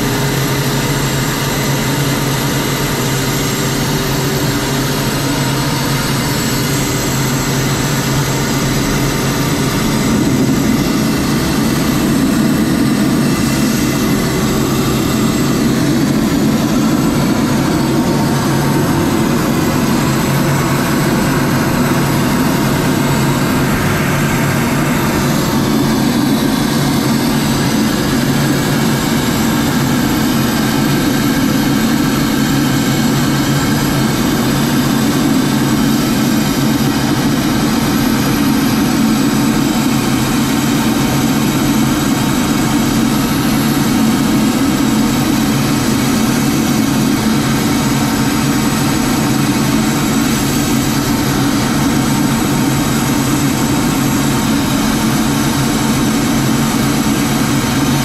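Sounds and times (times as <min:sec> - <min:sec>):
aircraft cockpit airflow rushing: 0:00.0 - 0:58.0
aircraft engine drone: 0:00.0 - 0:58.0.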